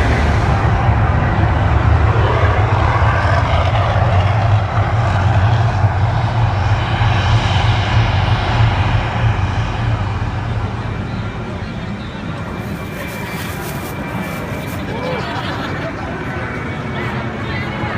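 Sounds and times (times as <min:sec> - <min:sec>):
loud roar over deep rumble: 0:00.0 - 0:17.9.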